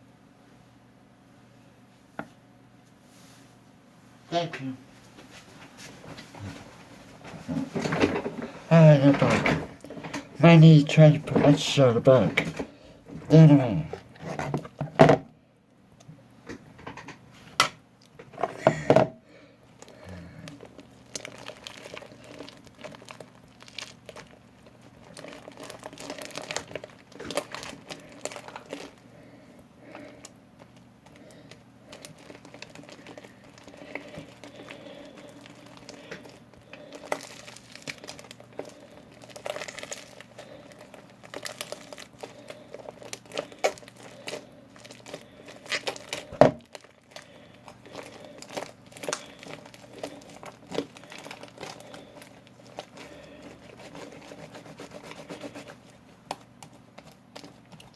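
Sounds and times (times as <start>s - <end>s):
slime squishing by hand: 5.3s - 57.9s.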